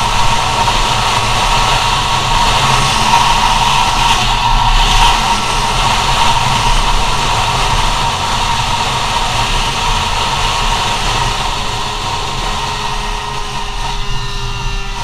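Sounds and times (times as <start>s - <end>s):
small two-stroke engine revving: 0.0s - 15.0s
wind noise on microphone: 0.0s - 15.0s.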